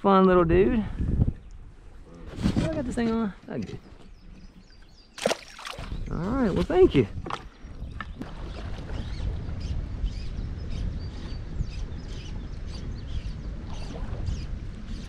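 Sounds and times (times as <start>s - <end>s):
birds chirping: 1.3s - 15.0s.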